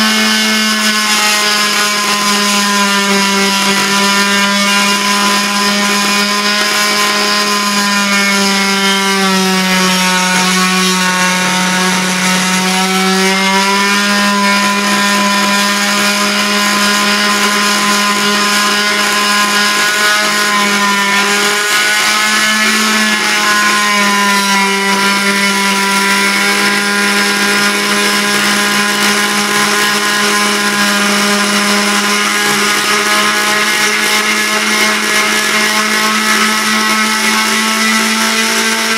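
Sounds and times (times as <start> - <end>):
oscillating multi-tool cutting log: 0.0 - 38.9.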